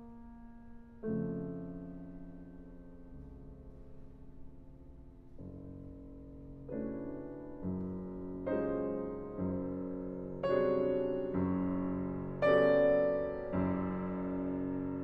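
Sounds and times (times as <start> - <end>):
grand piano chords: 0.0 - 15.0.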